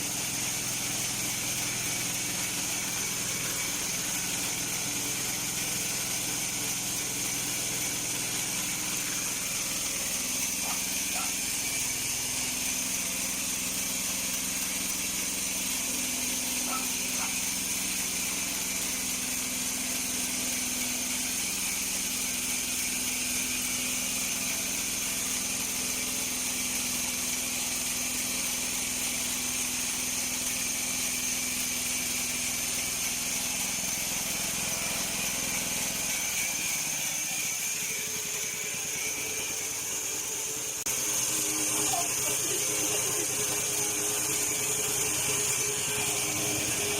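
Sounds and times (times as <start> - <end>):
bandsaw mill engine running: 0.0 - 46.9.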